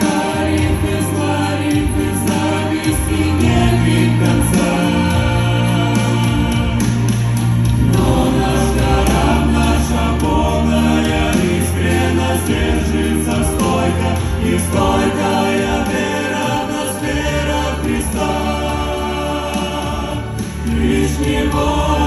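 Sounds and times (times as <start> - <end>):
choir singing: 0.0 - 22.0
instrumental backing with bass line: 0.0 - 22.0.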